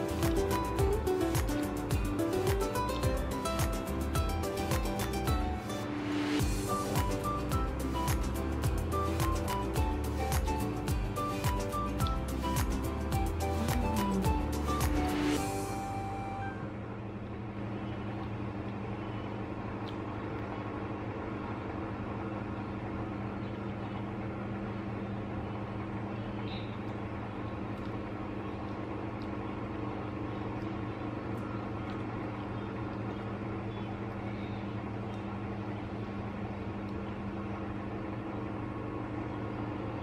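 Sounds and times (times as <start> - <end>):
appliance humming: 0.0 - 40.0.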